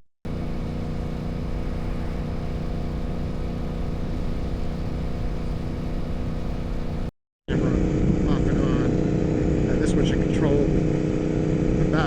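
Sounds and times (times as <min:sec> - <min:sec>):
motorcycle engine running: 0:00.3 - 0:12.0
wind and road noise: 0:00.3 - 0:12.0.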